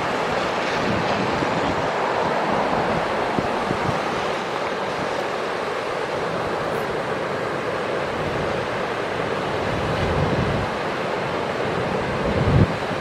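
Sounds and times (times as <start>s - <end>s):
wind buffeting microphone: 0.0s - 7.2s, 8.0s - 13.0s
ocean surf breaking: 0.0s - 13.0s.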